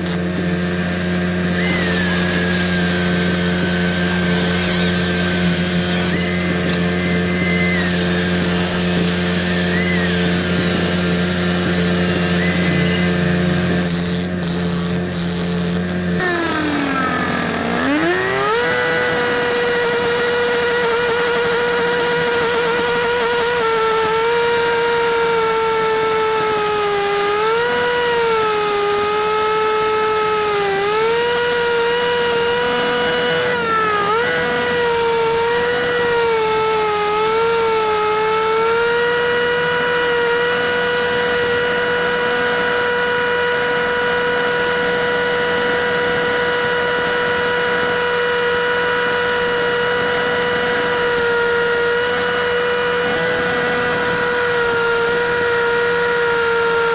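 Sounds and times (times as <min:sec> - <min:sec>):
concrete cutting saw whining: 0:00.0 - 0:56.9.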